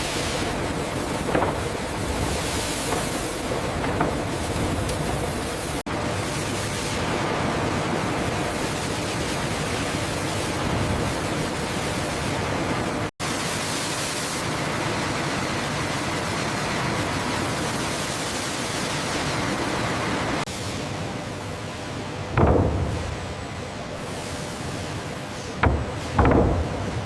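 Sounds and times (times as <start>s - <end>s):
industrial machinery hiss and rumble: 0.0s - 27.0s.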